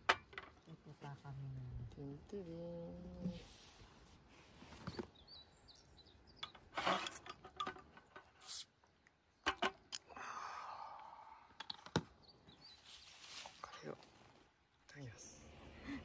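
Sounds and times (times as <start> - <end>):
faint birds chirping: 0.5 - 16.0.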